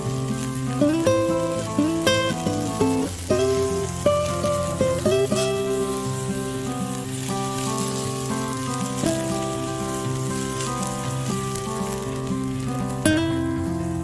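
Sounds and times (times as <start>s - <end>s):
background music of sustained notes: 0.0s - 14.0s
meat sizzling and fat crackling: 0.0s - 14.0s.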